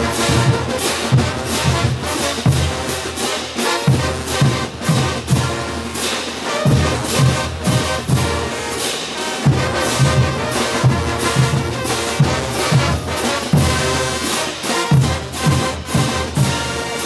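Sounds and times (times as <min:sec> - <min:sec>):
trumpets and trombones: 0:00.0 - 0:17.0.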